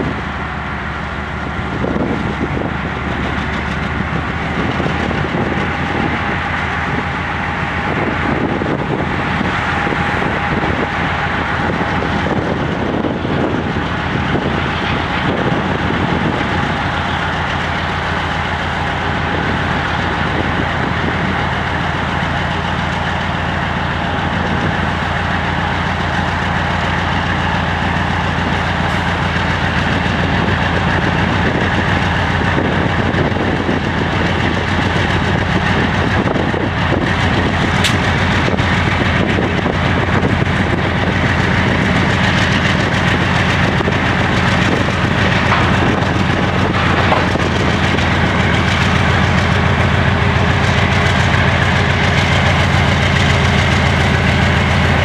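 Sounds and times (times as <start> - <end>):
locomotive diesel engine drone: 0.0 - 55.0.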